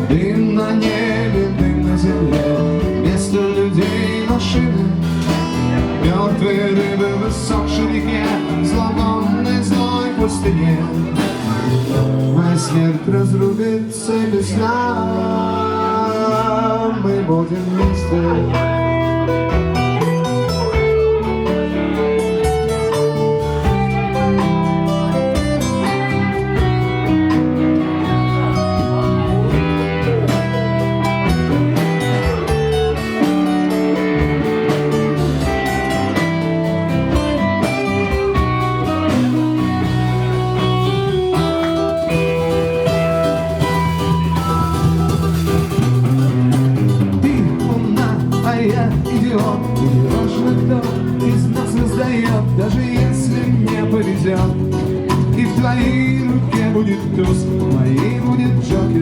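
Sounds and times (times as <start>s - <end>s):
band accompaniment with low notes: 0.0s - 59.0s
guitar playing: 0.0s - 59.0s.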